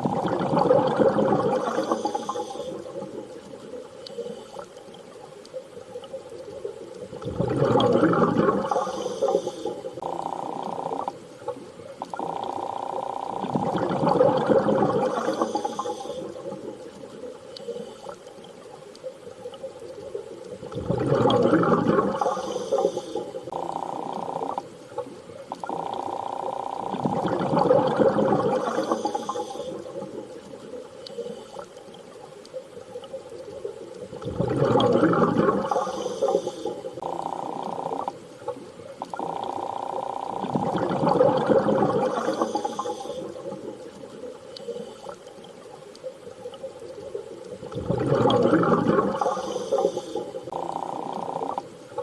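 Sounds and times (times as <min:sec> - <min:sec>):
steady underwater hum: 0:00.0 - 0:52.0.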